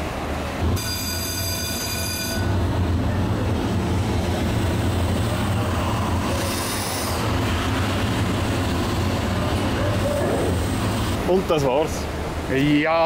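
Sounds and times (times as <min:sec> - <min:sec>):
steam engine hum and clatter: 0:00.0 - 0:13.0.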